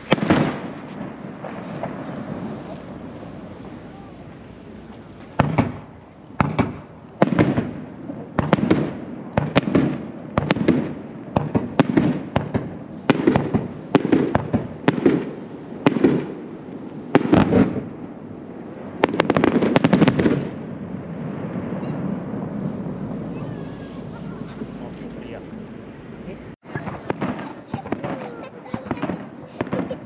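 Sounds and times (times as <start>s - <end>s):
crackling fireworks bursts: 0.0s - 25.5s, 26.4s - 30.0s
fireworks booming: 0.0s - 30.0s.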